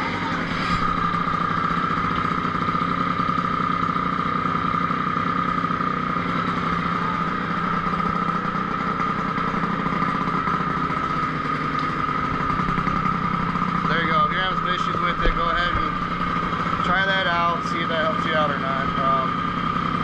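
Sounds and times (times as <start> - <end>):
quad engine idling: 0.0 - 20.0.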